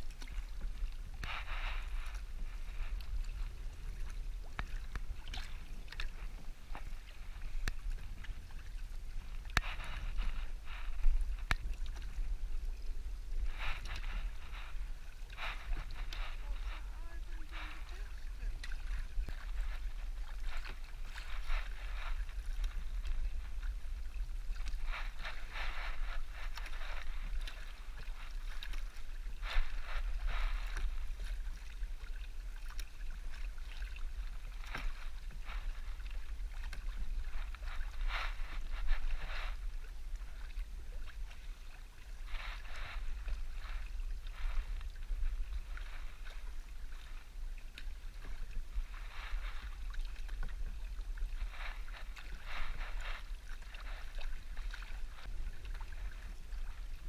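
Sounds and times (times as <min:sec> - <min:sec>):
canoe paddle strokes through water: 0:00.0 - 0:57.0
wind rumble on microphone: 0:00.0 - 0:57.0.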